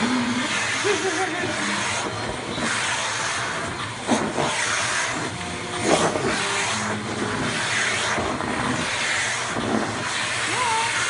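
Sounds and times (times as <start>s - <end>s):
vacuum cleaner suction: 0.0s - 11.0s.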